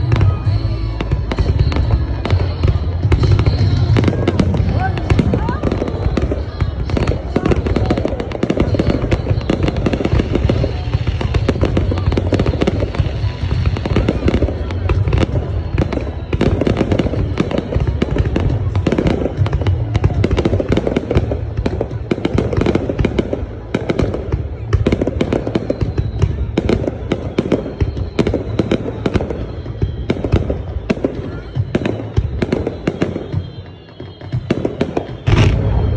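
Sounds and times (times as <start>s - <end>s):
fireworks crackling: 0.0s - 35.9s.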